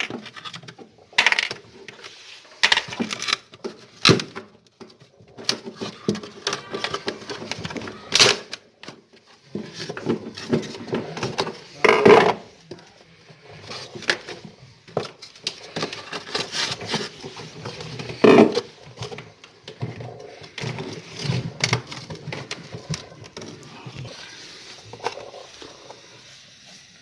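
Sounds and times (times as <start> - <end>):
hands clicking and clattering parts: 0.0 - 26.0.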